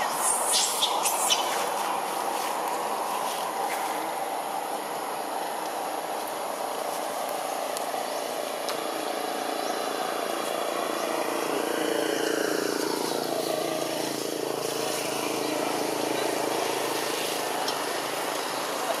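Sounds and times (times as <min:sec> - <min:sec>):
distant motor traffic: 0:00.0 - 0:19.0.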